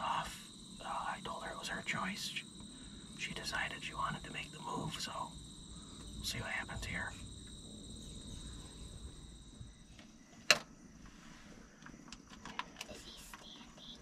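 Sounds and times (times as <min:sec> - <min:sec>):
steady high whine: 0:00.0 - 0:11.8.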